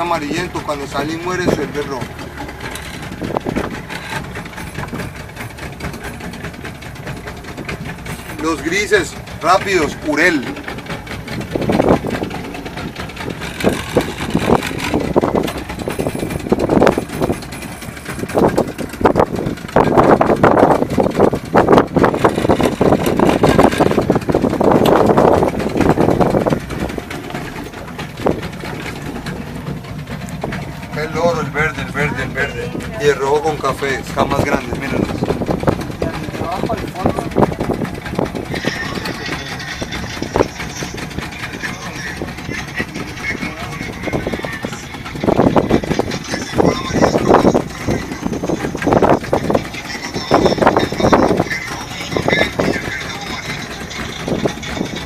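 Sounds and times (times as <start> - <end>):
boat motor idling: 0.0 - 55.0
water splashing: 0.0 - 55.0.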